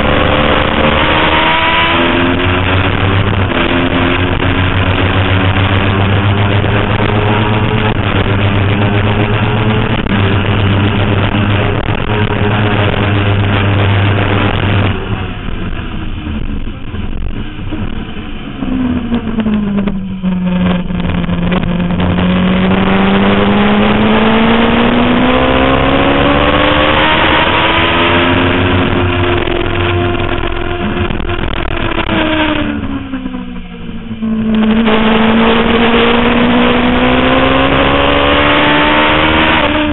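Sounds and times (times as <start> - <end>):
motorcycle engine revving high: 0.0 - 39.9
rushing noise: 0.0 - 39.9.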